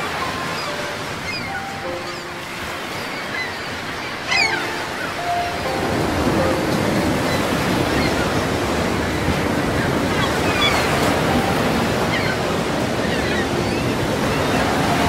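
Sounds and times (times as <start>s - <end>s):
choppy waves: 0.0s - 15.0s.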